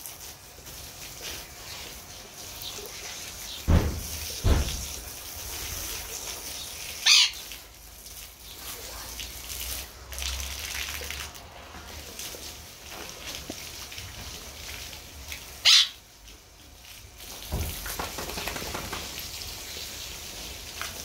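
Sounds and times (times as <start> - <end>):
water splashing on tiles: 0.0 - 21.0.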